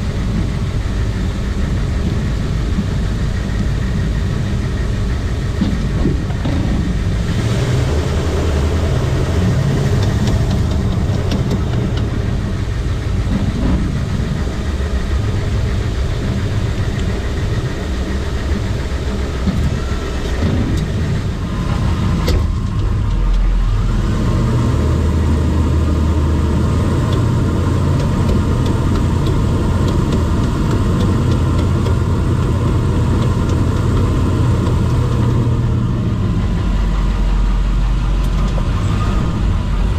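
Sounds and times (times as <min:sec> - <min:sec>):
faint drivetrain clicking: 0:00.0 - 0:23.7, 0:25.6 - 0:39.0
road and engine noise: 0:00.0 - 0:39.9.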